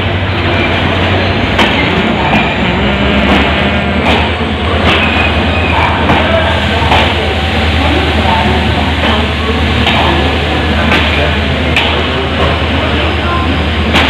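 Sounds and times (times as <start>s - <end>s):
train hum and rumble: 0.0s - 14.0s.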